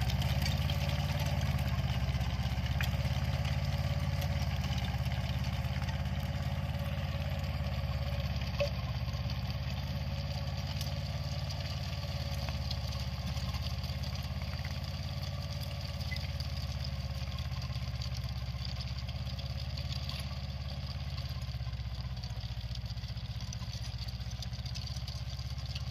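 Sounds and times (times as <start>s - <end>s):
rotavator tilling soil: 0.0s - 21.7s
tractor diesel engine under load: 0.0s - 25.9s.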